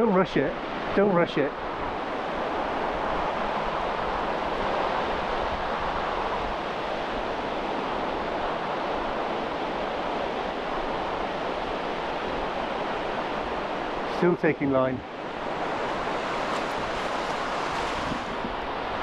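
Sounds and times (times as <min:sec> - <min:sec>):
shallow surf washing on beach: 0:00.0 - 0:19.0.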